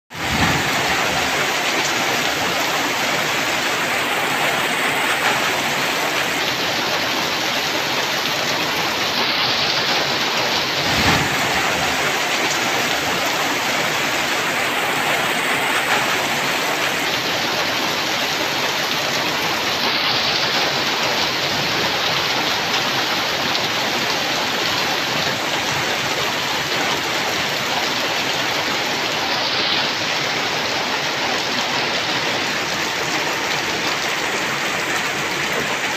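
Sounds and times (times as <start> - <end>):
rain falling on trees: 0.1 - 35.9.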